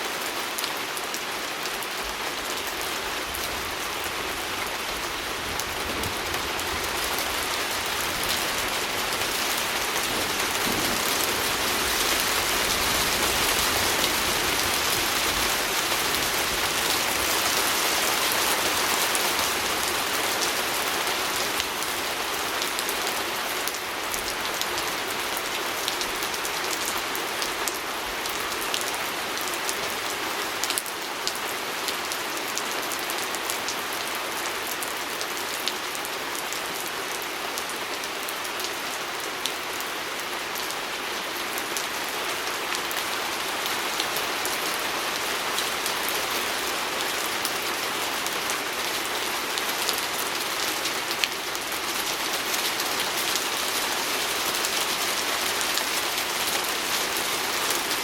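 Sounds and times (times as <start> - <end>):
rain hissing on a window: 0.1 - 58.0.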